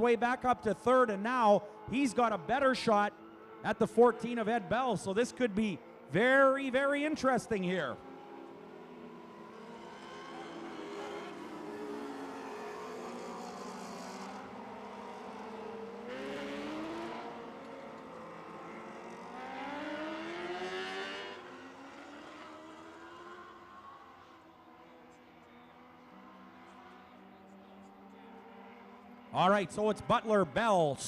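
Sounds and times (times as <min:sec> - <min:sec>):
sprint car engines passing: 0:00.0 - 0:31.0.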